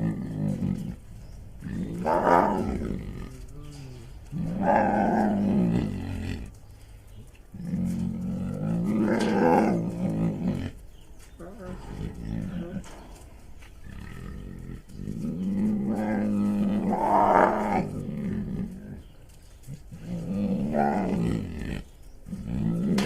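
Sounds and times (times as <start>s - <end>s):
bear growling: 0.0s - 6.7s, 7.4s - 23.0s.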